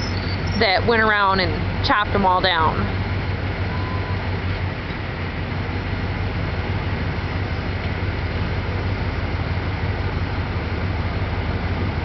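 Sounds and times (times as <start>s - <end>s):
combine engine drone: 0.0s - 12.0s
rushing noise: 0.0s - 12.0s.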